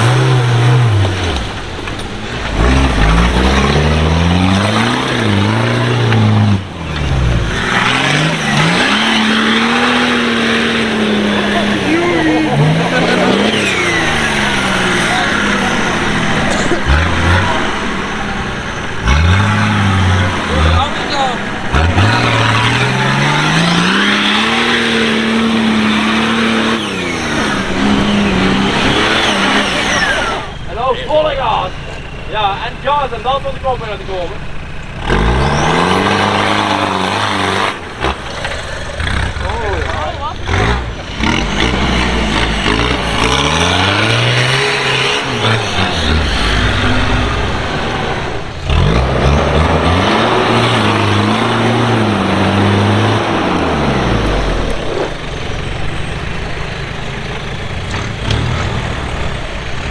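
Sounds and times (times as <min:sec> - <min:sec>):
engine revving under load: 0:00.0 - 0:59.9.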